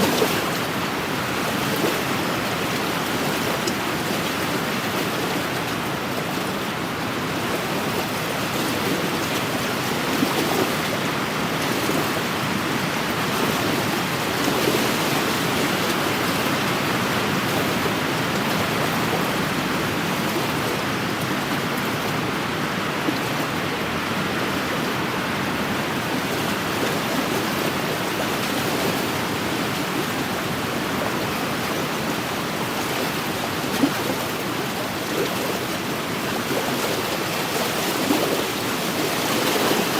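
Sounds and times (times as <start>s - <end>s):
waves washing against shore: 0.0s - 39.9s.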